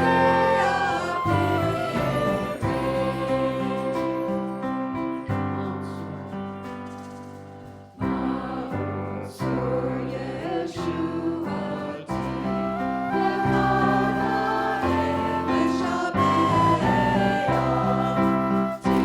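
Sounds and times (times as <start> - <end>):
group of voices singing: 0.0 - 6.5, 8.0 - 19.0
instrumental accompaniment: 0.0 - 19.0.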